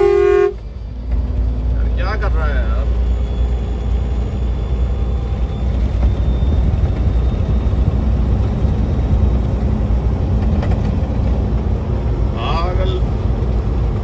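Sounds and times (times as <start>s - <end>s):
truck engine rumble: 0.0s - 14.0s
tyres on highway: 0.0s - 14.0s.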